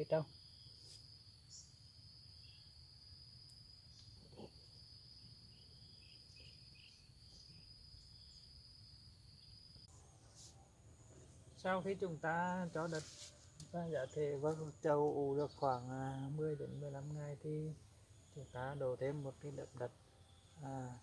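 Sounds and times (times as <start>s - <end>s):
crickets chirring: 0.0s - 10.0s, 10.9s - 21.0s.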